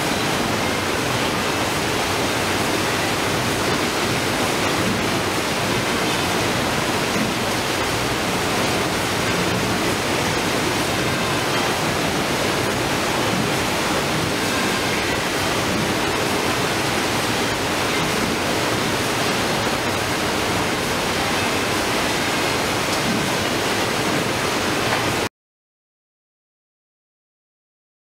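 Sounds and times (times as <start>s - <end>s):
fish processing machine rushing: 0.0s - 25.2s.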